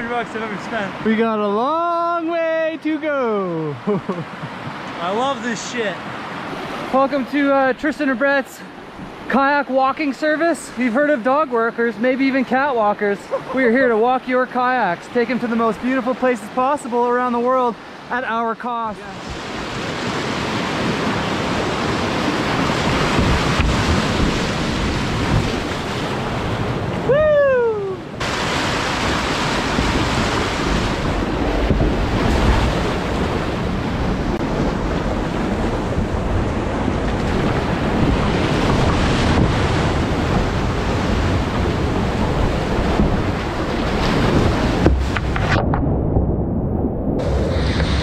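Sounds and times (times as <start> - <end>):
whitewater rapids rushing: 4.8 - 45.4.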